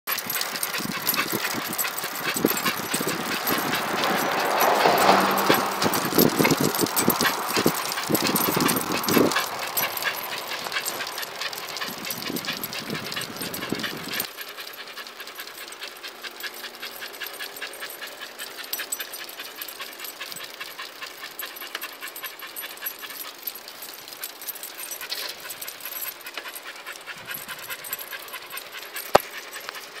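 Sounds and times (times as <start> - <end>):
dogs panting: 0.1 - 30.0
rattle of small clicks: 0.1 - 30.0.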